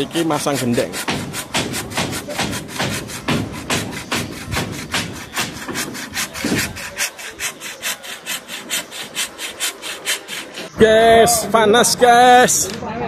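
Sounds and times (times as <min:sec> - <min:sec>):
hand saw cutting wood: 0:00.0 - 0:10.8.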